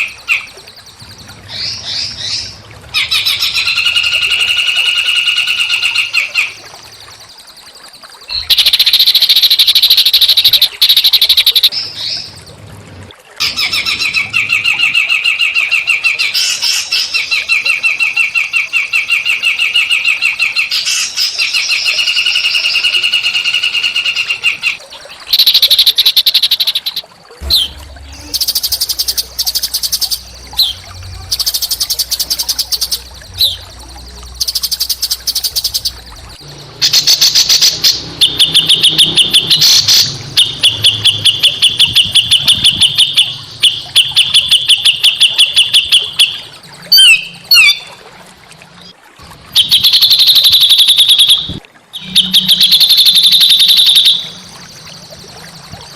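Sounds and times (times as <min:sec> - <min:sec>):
songbirds trilling: 0:00.0 - 0:12.6, 0:13.4 - 0:48.0, 0:49.6 - 0:55.9.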